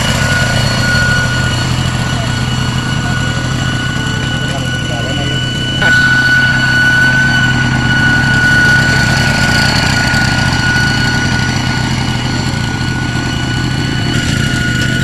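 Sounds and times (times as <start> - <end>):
steady high whine: 0.0 - 15.0
tractor engine running: 0.0 - 15.0.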